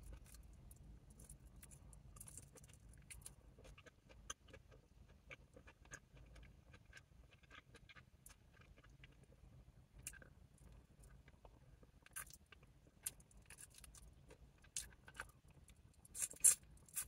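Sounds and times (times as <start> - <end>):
chewing crispy food: 0.0 - 17.0.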